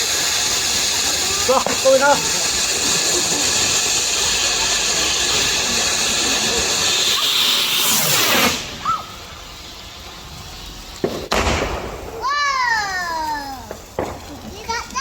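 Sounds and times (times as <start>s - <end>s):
firework fountain hissing: 0.0s - 15.0s.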